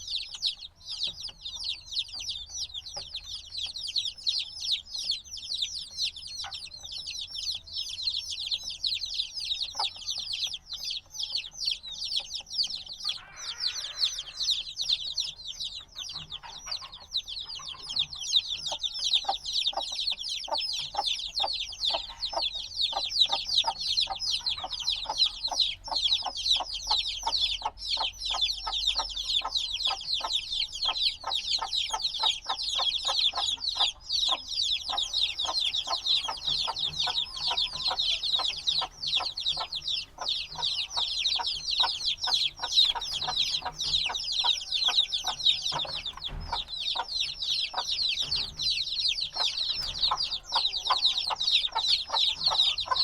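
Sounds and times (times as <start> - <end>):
baby chicks peeping: 0.0 - 53.0.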